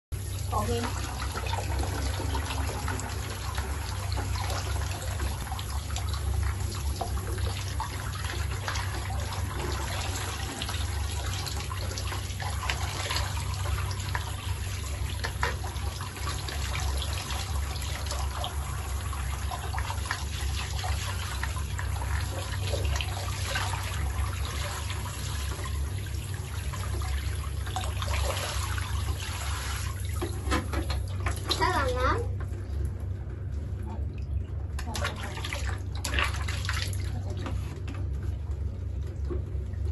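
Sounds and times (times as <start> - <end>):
steady low hum: 0.2 - 39.9
water splashing into basin: 0.3 - 32.0, 34.1 - 38.0.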